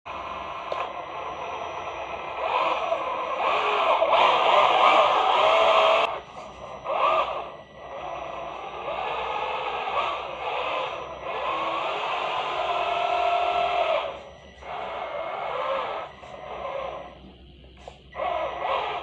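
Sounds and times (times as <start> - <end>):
electric motor and gears whining: 0.1 - 19.0.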